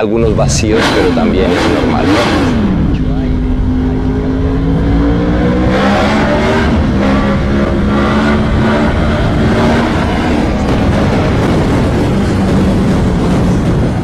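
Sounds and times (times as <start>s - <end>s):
motorcycle engine revving: 0.1s - 14.0s.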